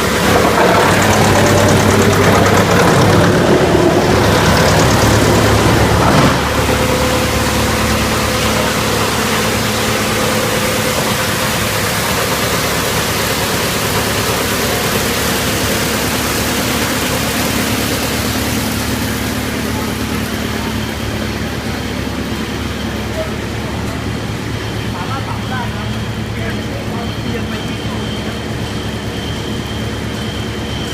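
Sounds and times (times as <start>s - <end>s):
wood chipper running: 0.0s - 30.9s.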